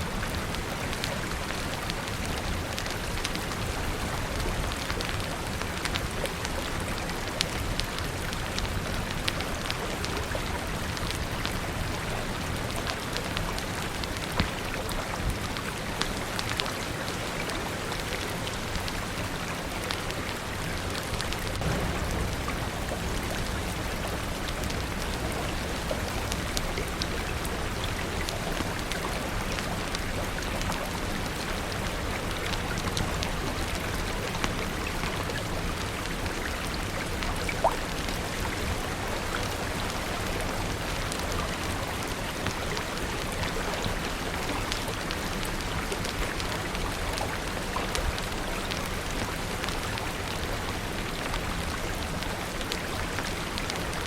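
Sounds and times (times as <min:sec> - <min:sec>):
steady rain falling: 0:00.0 - 0:54.0
wood fire popping and crackling: 0:00.1 - 0:54.0.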